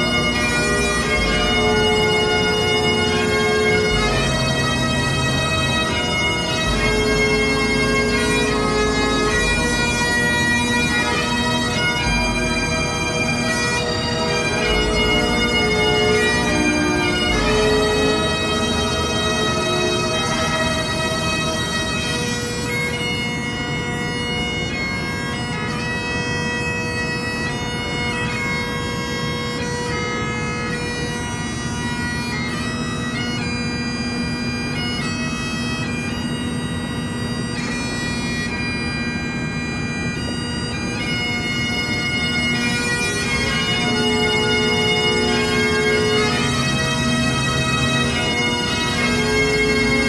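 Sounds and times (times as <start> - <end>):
bagpipe music: 0.0 - 50.0.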